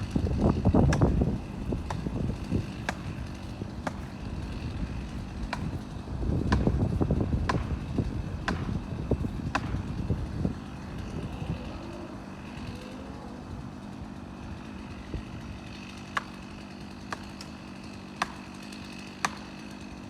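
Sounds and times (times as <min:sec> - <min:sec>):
heavy machinery rumbling: 0:00.0 - 0:20.0.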